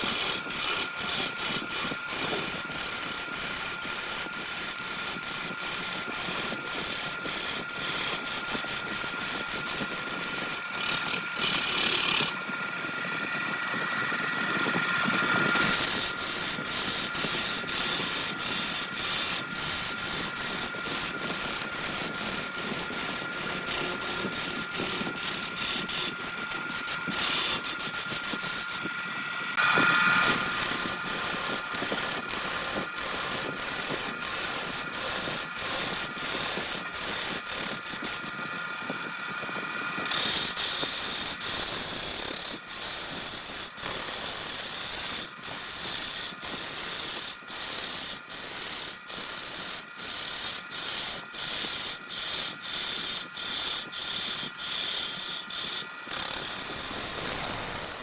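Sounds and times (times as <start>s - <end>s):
lathe motor whine: 0.0s - 58.0s
lathe tool scraping wood: 0.0s - 58.0s.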